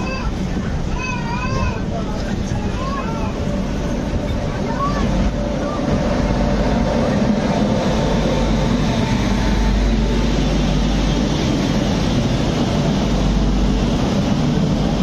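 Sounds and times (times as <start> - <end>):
rushing air: 0.0 - 15.0
train wheels rumbling on rails: 0.0 - 15.0.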